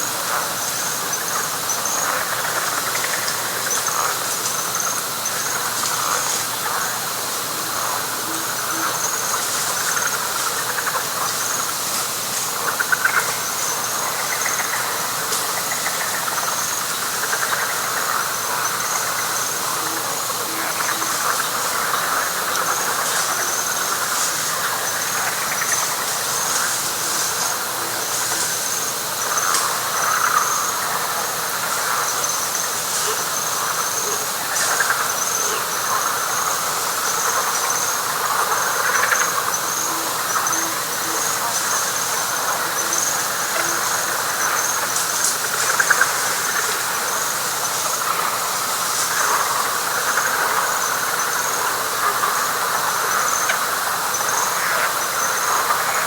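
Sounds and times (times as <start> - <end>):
faint low frog calls: 0.0 - 56.0
frog chorus: 0.0 - 56.0
high insect trill: 0.0 - 56.0.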